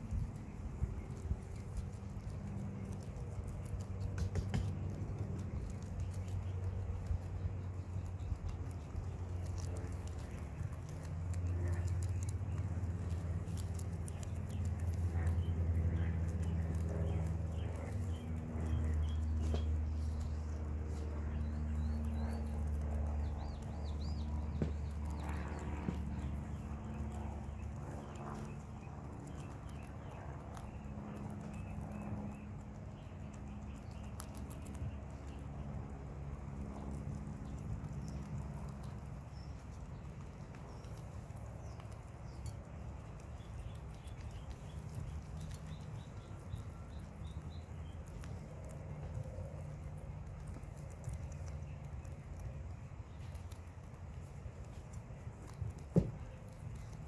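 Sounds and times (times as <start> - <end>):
guinea pigs chewing and crunching: 0.0 - 57.0
steady low hum: 0.0 - 57.0.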